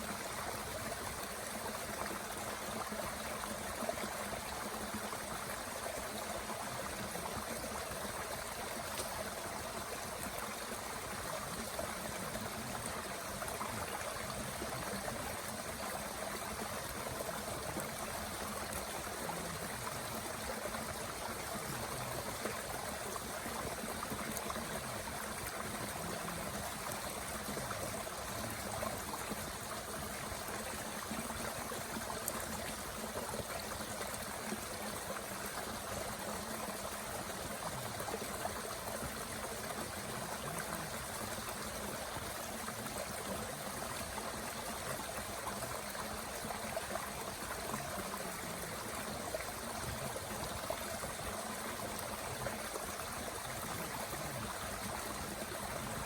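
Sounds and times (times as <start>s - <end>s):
stream rushing water: 0.0s - 56.0s.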